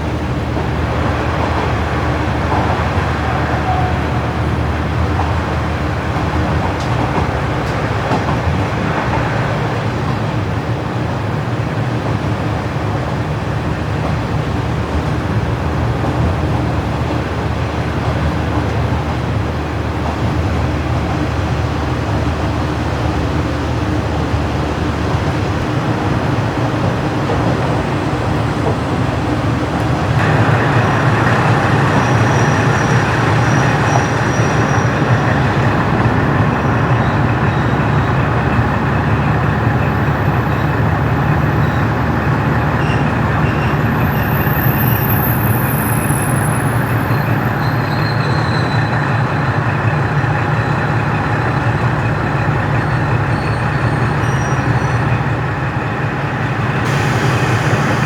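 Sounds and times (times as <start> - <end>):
diesel railcar engine drone: 0.0 - 58.0
train running noise: 0.0 - 58.0.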